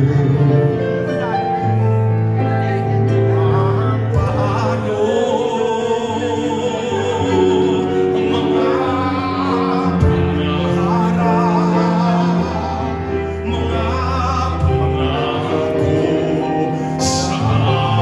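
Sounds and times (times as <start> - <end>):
men singing into microphones: 0.0 - 1.8, 2.6 - 18.0
piano accompaniment: 0.0 - 18.0.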